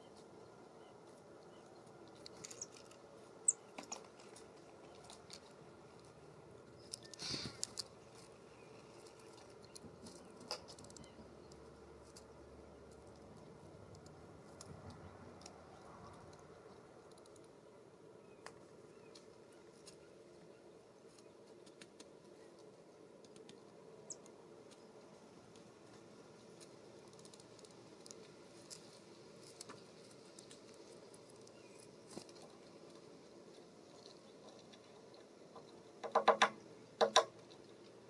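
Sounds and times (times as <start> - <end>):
soft ticks and clicks: 1.1 - 17.6, 21.1 - 38.0.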